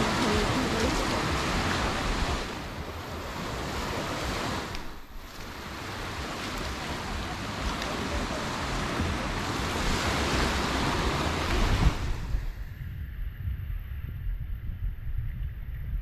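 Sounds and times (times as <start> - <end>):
waves breaking on beach: 0.0 - 12.9.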